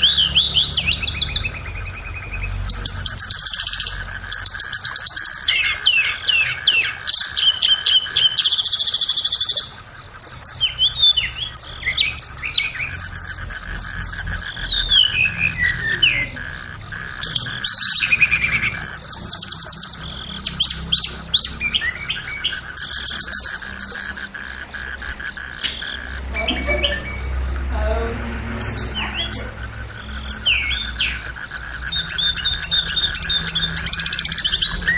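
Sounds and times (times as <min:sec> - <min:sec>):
bird singing whistles and trills: 0:00.0 - 0:24.3, 0:28.6 - 0:34.9.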